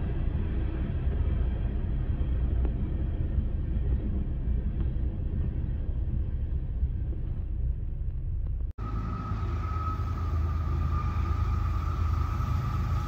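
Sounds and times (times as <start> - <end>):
muffled freight train rumble: 0.0 - 13.0.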